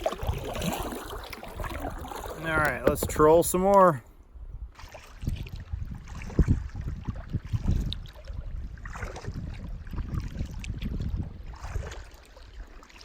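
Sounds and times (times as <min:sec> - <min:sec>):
kayak paddle splashing in water: 0:00.0 - 0:04.0, 0:04.7 - 0:13.0
wind rumble on microphone: 0:00.0 - 0:13.0.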